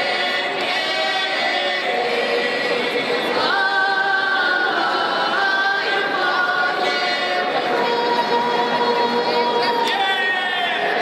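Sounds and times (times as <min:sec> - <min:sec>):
choir singing a cappella: 0:00.0 - 0:10.0.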